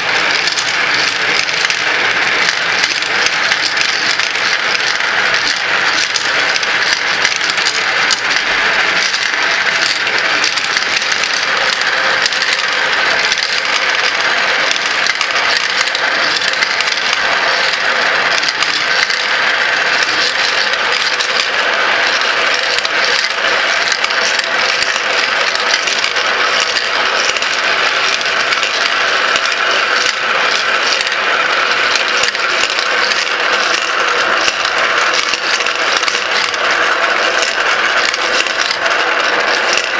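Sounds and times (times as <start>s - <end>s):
marbles rolling and clicking: 0.0s - 39.9s.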